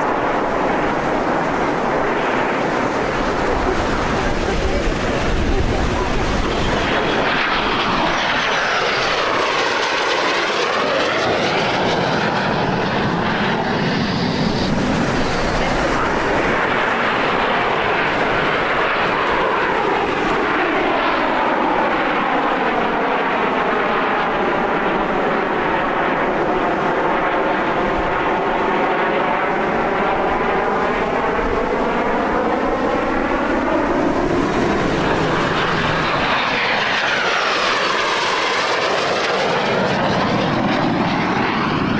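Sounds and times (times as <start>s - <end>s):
jet aircraft flying past: 0.0s - 41.9s.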